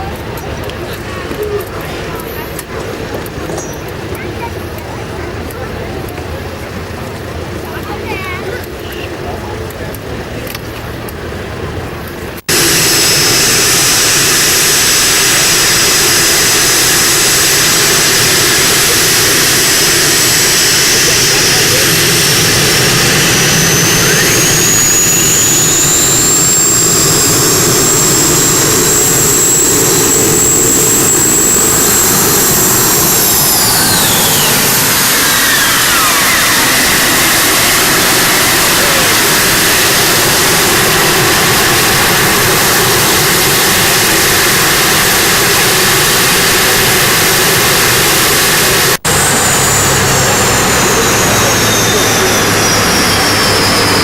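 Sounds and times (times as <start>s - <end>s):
tractor engine whining: 9.2s - 54.0s.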